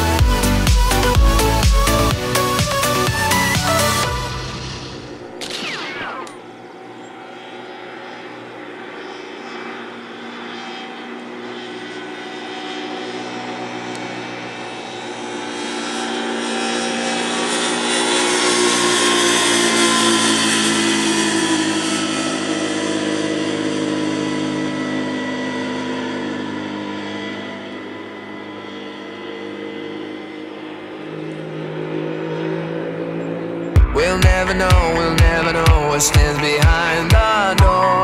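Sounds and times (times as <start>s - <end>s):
motorcycle engines cruising: 0.0s - 38.0s.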